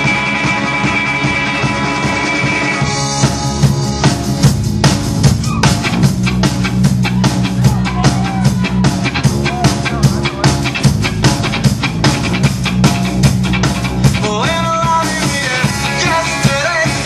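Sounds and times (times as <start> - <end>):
bass guitar: 0.0 - 17.0
drum beat: 0.0 - 17.0
electric guitar: 0.0 - 17.0.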